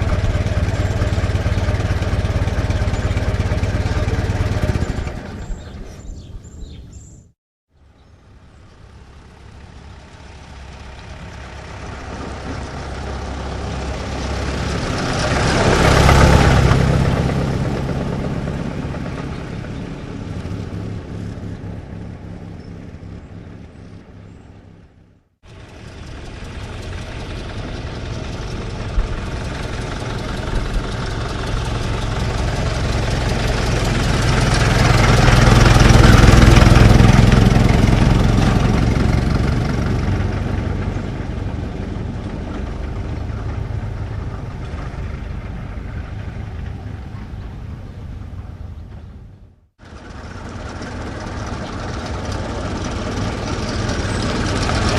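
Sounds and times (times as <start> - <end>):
old car engine running: 0.0 - 6.3, 8.3 - 54.9
old car engine passing: 0.0 - 7.2, 7.8 - 54.9.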